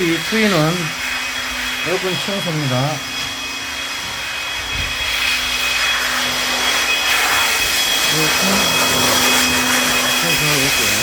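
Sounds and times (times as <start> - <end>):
cleaning machine whirring hum: 0.0 - 11.0.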